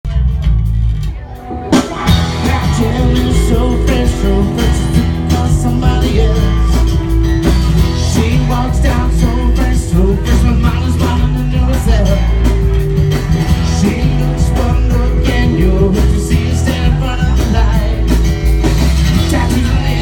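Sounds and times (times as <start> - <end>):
rock band playing live: 0.1 - 20.0.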